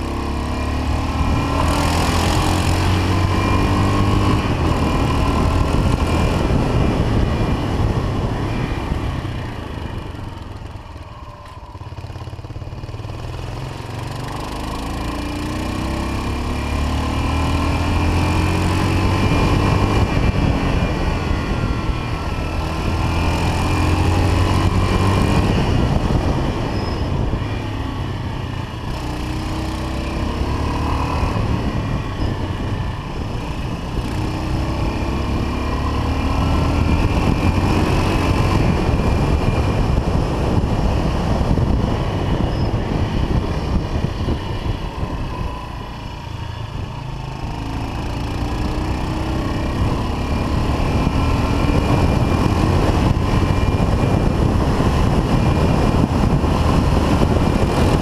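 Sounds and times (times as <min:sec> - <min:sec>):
wind rush: 0:00.0 - 0:16.3, 0:16.9 - 0:58.0
motorcycle engine running: 0:00.0 - 0:58.0.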